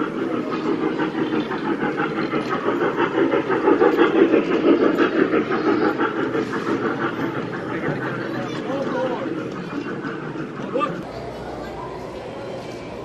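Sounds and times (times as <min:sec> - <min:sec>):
ride-on train running noise: 0:00.0 - 0:13.0.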